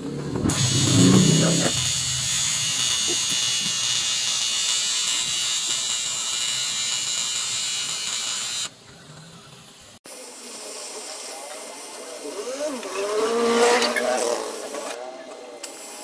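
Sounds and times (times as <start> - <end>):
welding arc buzzing hiss: 0.4 - 13.6, 15.6 - 16.0.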